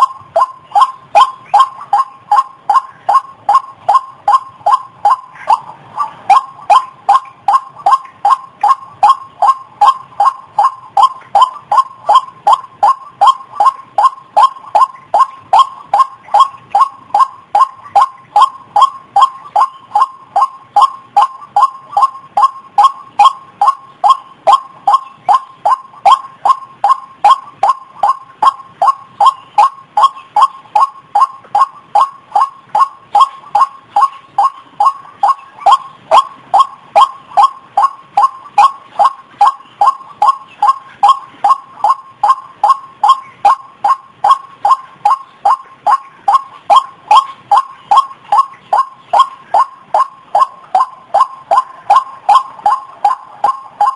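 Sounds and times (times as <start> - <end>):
bird calling short kwak notes: 0.0 - 53.9.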